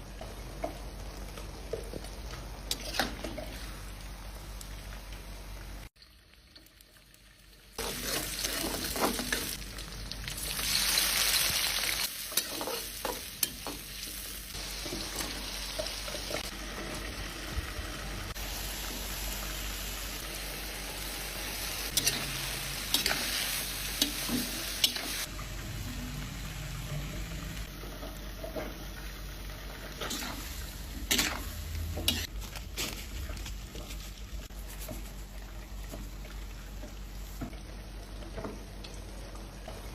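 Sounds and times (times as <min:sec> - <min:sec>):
food sizzling in a pan: 0:00.0 - 0:32.3.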